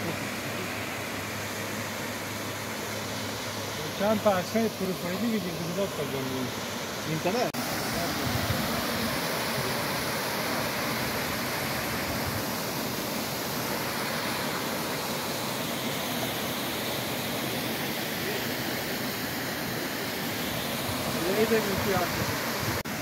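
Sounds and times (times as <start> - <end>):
waterfall rushing over rocks: 0.0 - 23.0.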